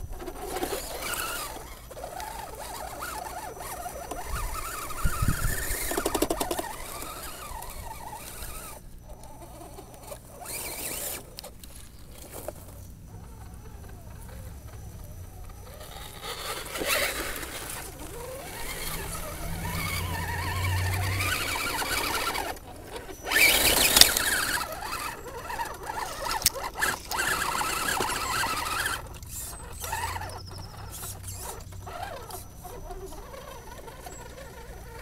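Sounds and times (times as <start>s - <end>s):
electric motor whining: 0.0s - 35.0s.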